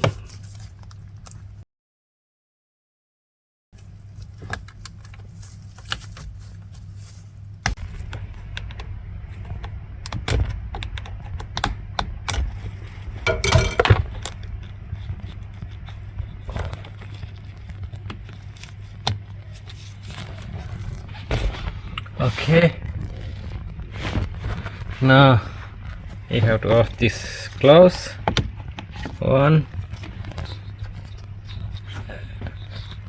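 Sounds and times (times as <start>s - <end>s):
steady low hum: 3.8s - 33.0s.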